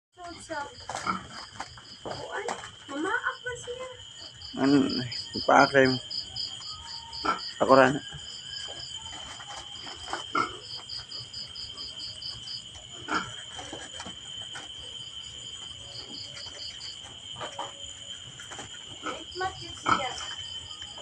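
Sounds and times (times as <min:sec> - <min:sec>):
crickets chirping: 0:00.2 - 0:21.0.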